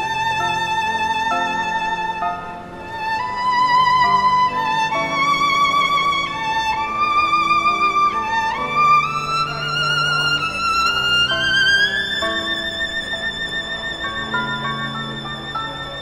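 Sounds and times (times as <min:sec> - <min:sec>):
slow violin melody: 0:00.0 - 0:16.0.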